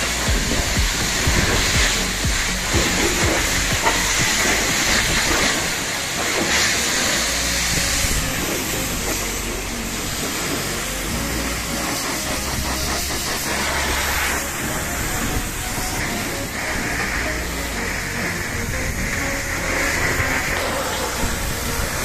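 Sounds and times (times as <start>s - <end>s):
pressure washer jet hissing on metal: 0.0s - 22.0s.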